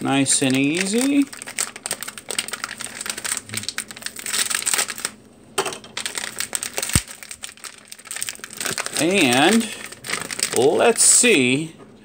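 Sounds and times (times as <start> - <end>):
plastic bag crinkling: 0.0 - 5.2, 5.8 - 11.2.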